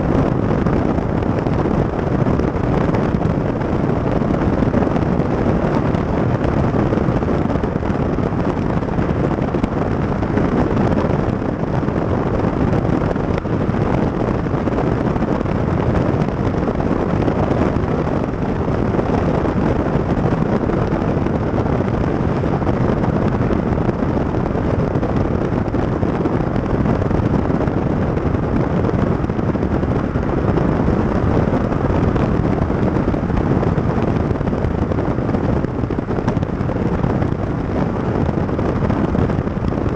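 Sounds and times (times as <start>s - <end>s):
car road and tyre noise: 0.0s - 39.9s
wind buffeting microphone: 0.0s - 39.9s.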